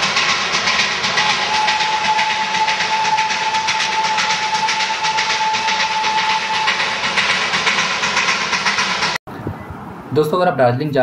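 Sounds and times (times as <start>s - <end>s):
steady high tone: 0.0s - 9.2s
train clattering past: 0.0s - 9.2s.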